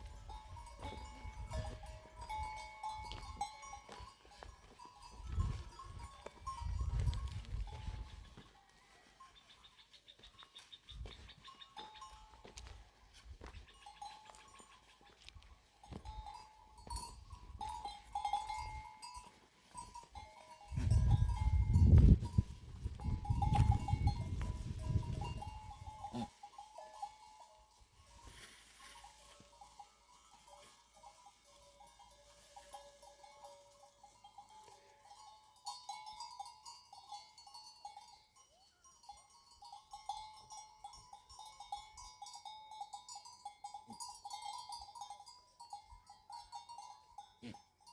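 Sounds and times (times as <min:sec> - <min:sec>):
livestock bells clinking: 0:00.0 - 0:47.9.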